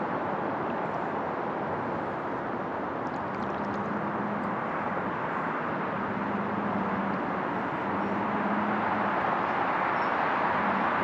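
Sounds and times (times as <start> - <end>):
waves washing against seawall: 0.9 - 11.0.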